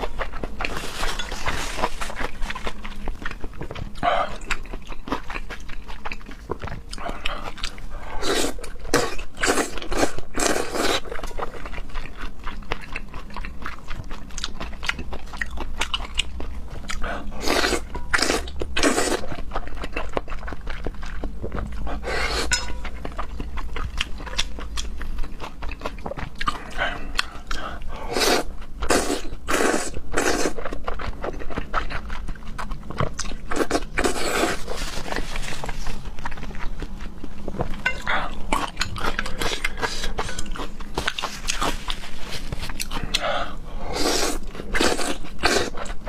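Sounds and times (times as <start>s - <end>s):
close-miked crunchy chewing: 0.0s - 46.0s.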